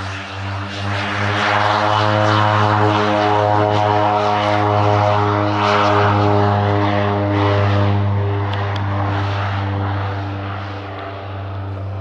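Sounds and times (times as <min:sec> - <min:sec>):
propeller plane taking off: 0:00.0 - 0:12.0.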